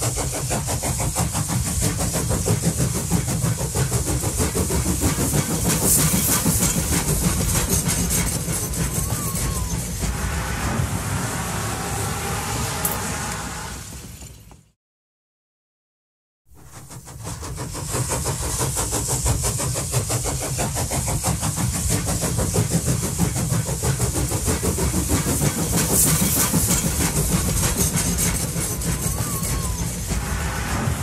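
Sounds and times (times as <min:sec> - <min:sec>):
steam hissing: 0:00.0 - 0:14.3, 0:16.6 - 0:31.0
steam locomotive exhaust beats: 0:00.0 - 0:14.7, 0:16.5 - 0:31.0.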